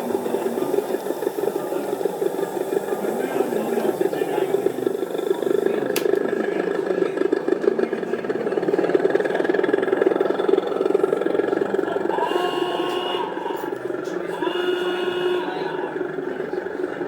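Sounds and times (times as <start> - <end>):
model train whirring rattle: 0.0 - 17.0.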